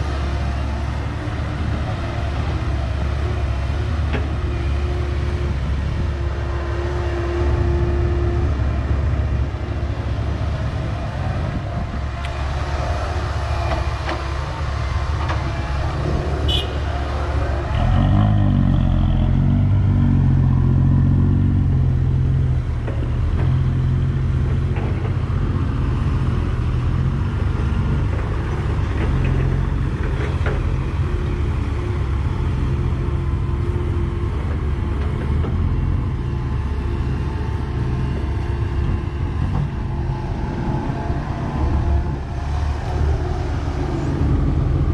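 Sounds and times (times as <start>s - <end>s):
excavator diesel engine under load: 0.0s - 44.9s.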